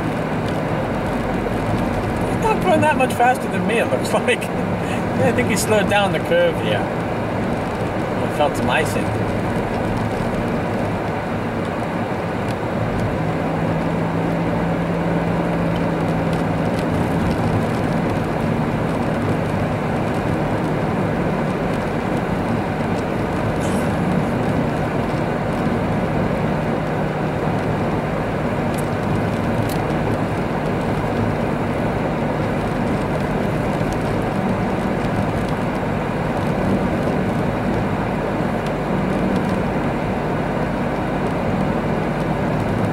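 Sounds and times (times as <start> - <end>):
car engine hum: 0.0 - 42.9
tyre and road noise: 0.0 - 42.9.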